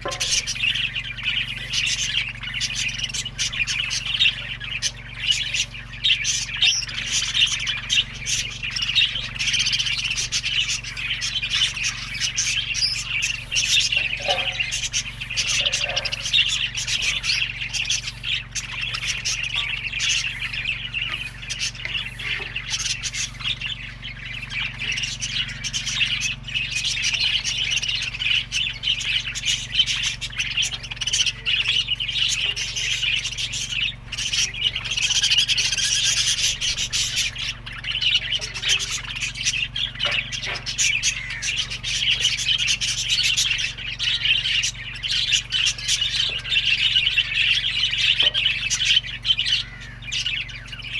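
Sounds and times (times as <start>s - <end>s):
budgerigar squawks: 0.0s - 50.9s
budgerigars chattering and chirping: 0.0s - 50.9s
steady low hum: 0.0s - 50.9s.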